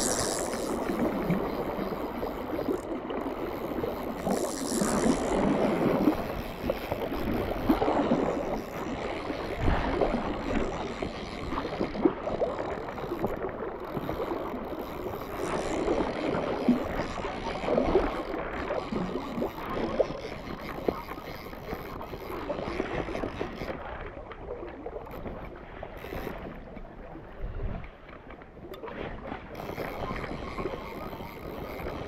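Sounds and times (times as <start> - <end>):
wind on microphone: 0.0 - 28.1, 28.7 - 32.0.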